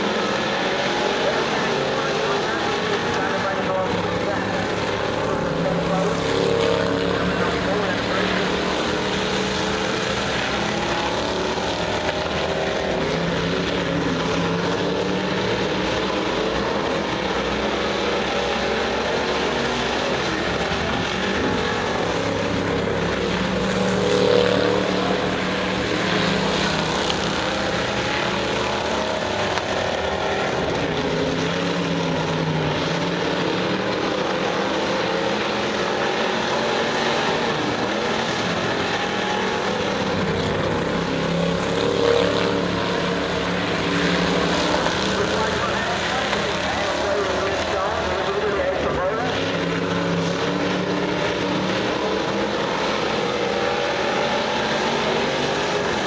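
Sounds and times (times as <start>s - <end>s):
race car engines running: 0.0s - 56.0s.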